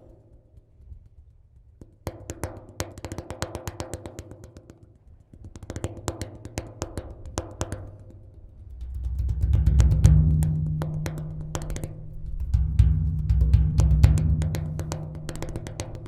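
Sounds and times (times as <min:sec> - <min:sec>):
sharp wooden clicking hits: 0:00.0 - 0:16.0.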